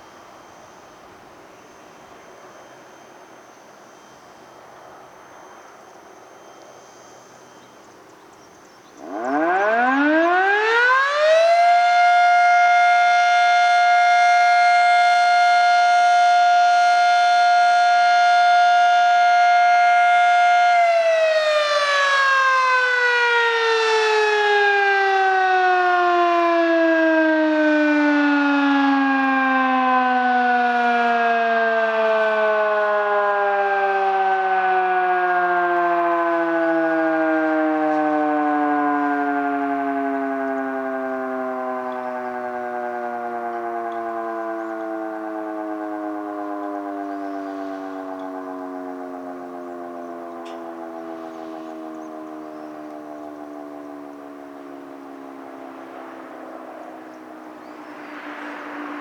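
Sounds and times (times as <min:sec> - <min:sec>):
fire siren winding: 0:09.0 - 0:57.6.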